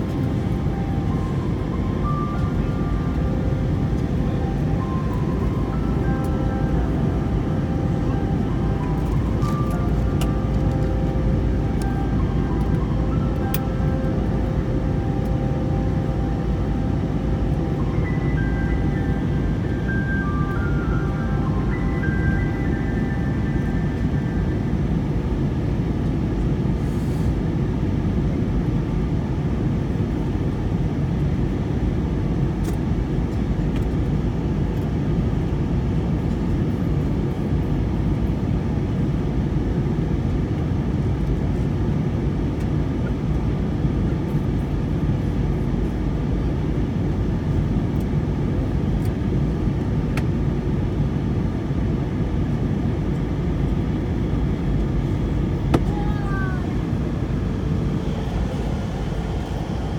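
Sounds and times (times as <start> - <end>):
jet airliner cabin drone: 0.0 - 59.9.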